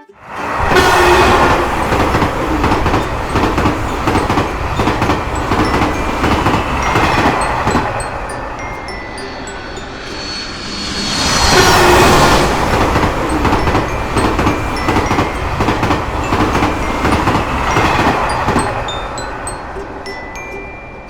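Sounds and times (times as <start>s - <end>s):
faint crossing warning bell: 0.0s - 21.0s
train wagons rushing past: 0.0s - 21.0s.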